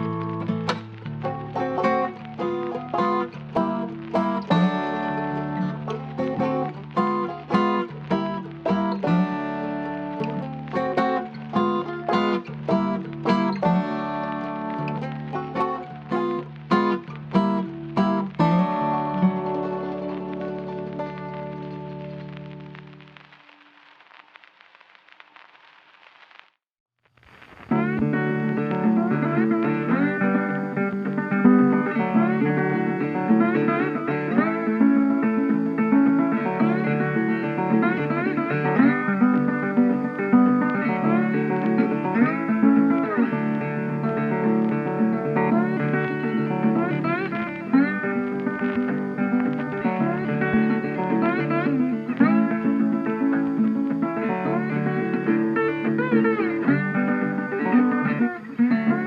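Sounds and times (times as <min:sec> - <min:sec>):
instrumental guitar music: 0:00.0 - 0:23.9, 0:27.4 - 0:59.0.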